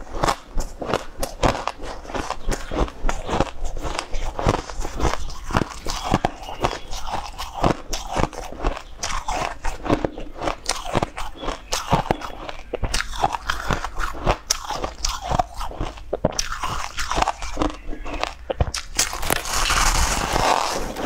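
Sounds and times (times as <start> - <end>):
crunching ice: 0.0 - 21.0.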